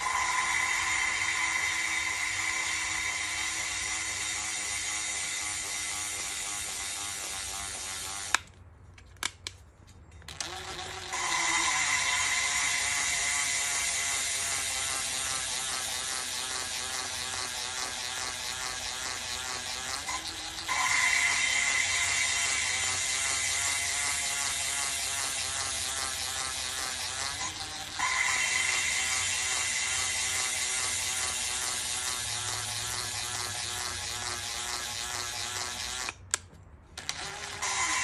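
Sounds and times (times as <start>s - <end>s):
impact driver running: 0.0s - 8.6s, 10.3s - 38.0s.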